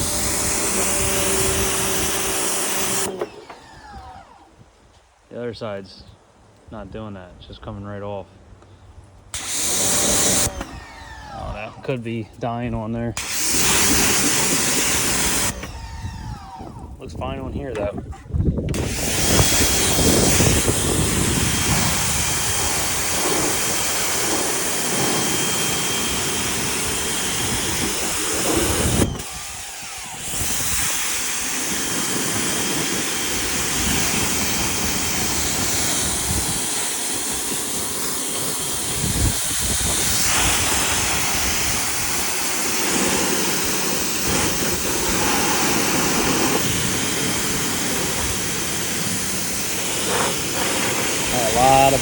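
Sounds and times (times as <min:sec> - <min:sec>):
pressure washer spraying: 0:00.0 - 0:03.4, 0:09.4 - 0:12.0, 0:13.2 - 0:15.8, 0:18.7 - 0:52.0.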